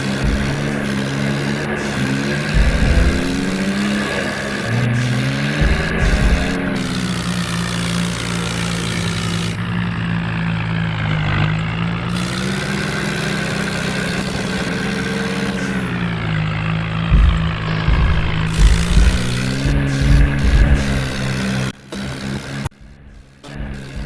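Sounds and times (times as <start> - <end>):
low thumps: 0.0 - 10.1, 12.4 - 21.8, 22.6 - 24.0
tractor diesel engine running: 0.0 - 24.0.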